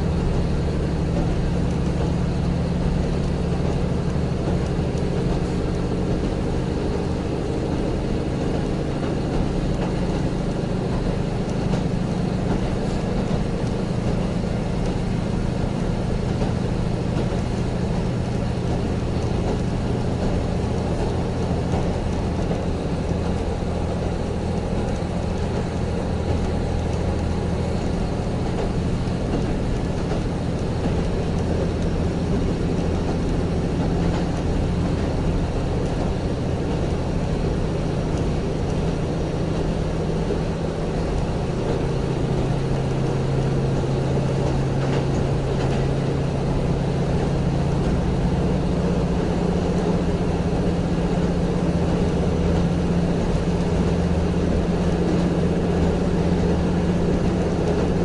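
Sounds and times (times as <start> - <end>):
low engine drone: 0.0 - 58.0
train wheels rumbling on rails: 0.0 - 58.0.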